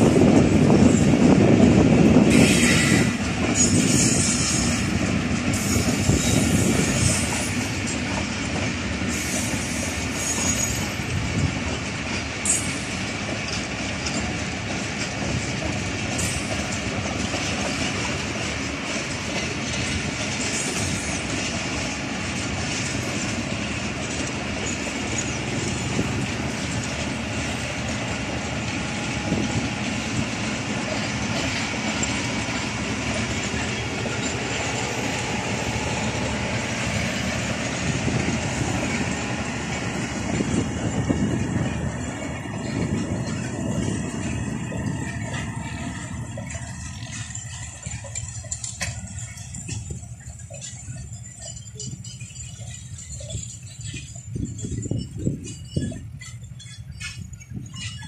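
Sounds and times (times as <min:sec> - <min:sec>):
train wheels on track: 0:00.0 - 0:58.0.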